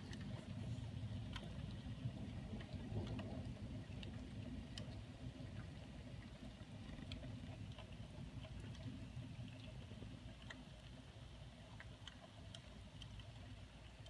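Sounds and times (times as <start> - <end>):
faint steady rain: 0.0 - 14.0.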